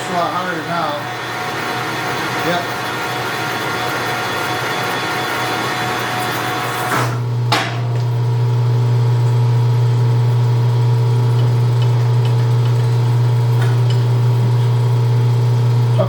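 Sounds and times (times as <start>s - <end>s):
metal lathe humming: 0.0s - 16.0s.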